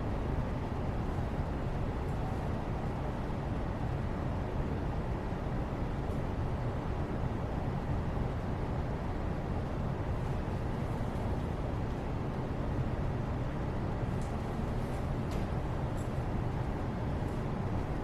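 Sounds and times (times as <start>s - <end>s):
low rushing background noise: 0.0s - 18.0s.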